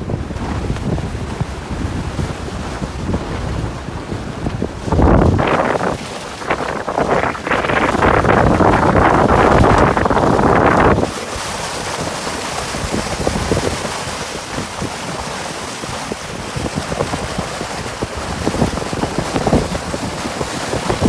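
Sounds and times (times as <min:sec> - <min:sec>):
water splashing against boat: 0:00.0 - 0:21.0
wind buffeting microphone: 0:00.0 - 0:21.0.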